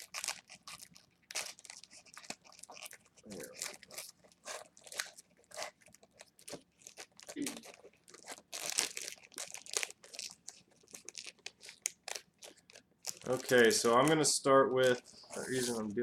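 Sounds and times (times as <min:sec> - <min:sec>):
plastic wrapper crinkling and tearing: 0:00.0 - 0:16.0.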